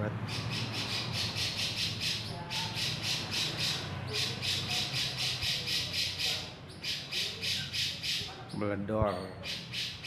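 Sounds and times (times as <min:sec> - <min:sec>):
bird harsh chattering call: 0:00.3 - 0:08.3, 0:09.3 - 0:10.0.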